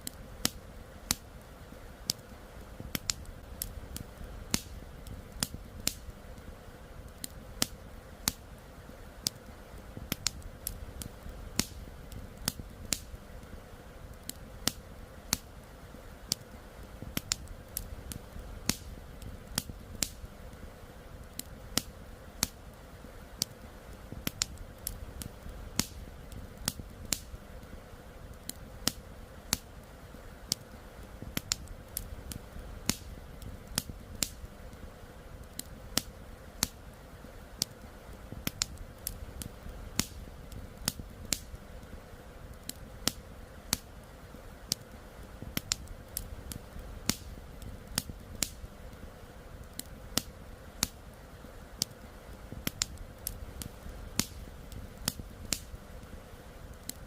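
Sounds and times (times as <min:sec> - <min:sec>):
campfire wood crackling: 0:00.0 - 0:57.0
low steady rush: 0:00.0 - 0:57.0.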